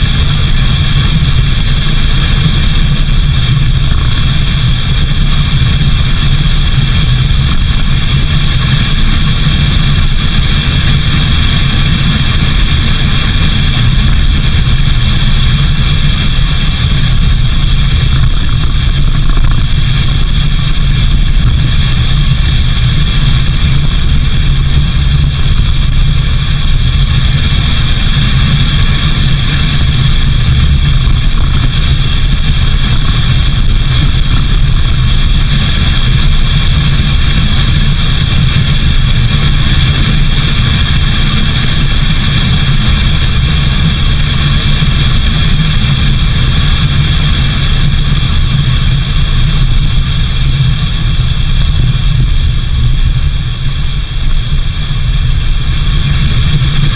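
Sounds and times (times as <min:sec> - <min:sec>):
constant higher hum: 0:00.0 - 0:56.9
engine and road rumble: 0:00.0 - 0:56.9.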